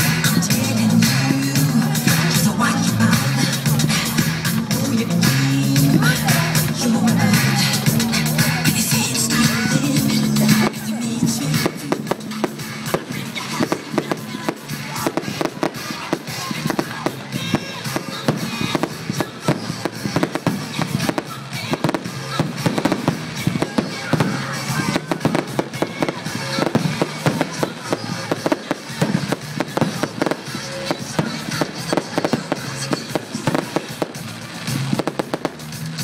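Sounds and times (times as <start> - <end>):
fireworks bangs and crackles: 0.0 - 36.0
music playing: 0.0 - 36.0.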